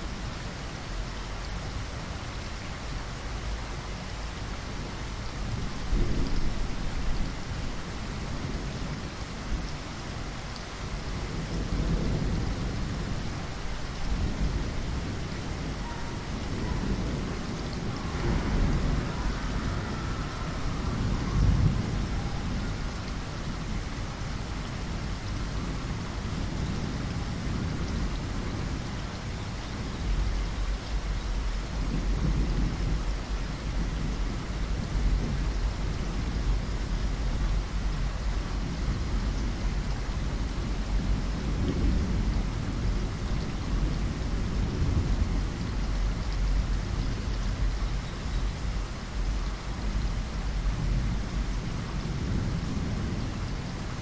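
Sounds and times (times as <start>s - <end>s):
steady rain falling: 0.0s - 54.0s
thunder rumbling: 4.8s - 54.0s.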